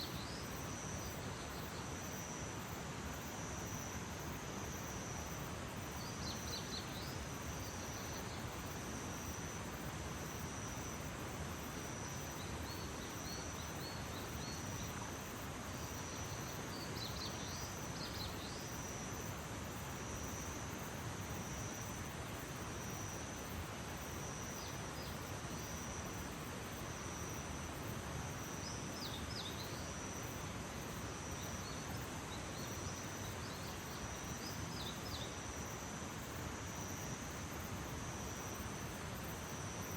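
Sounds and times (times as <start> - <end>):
soft background hiss: 0.0 - 39.9.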